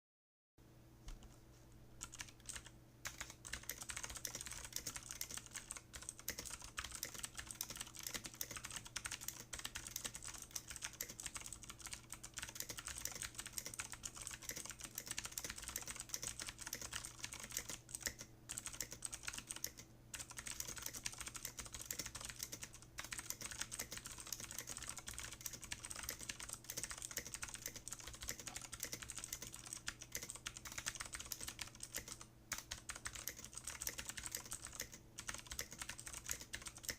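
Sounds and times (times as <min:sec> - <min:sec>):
fast mechanical keyboard typing: 0:02.0 - 0:36.9.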